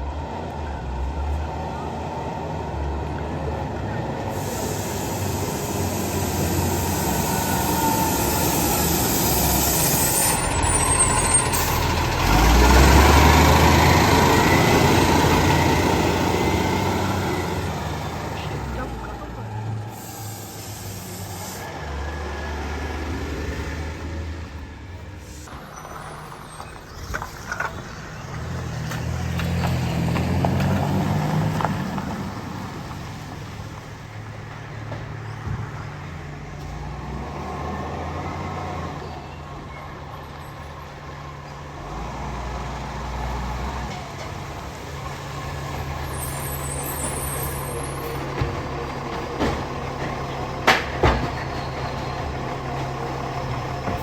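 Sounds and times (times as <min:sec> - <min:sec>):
garbage truck engine running: 0:00.1 - 0:21.0, 0:21.8 - 0:54.0.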